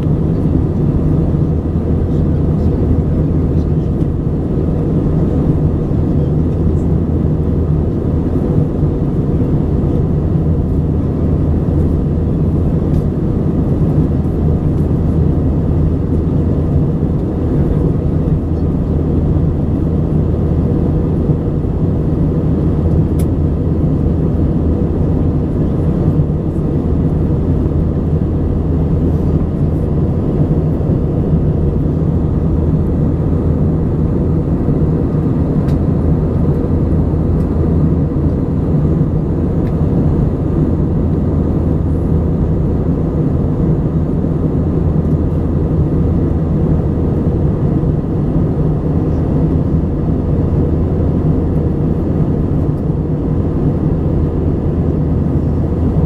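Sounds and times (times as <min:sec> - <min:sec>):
aircraft cabin engine drone: 0:00.0 - 0:56.0.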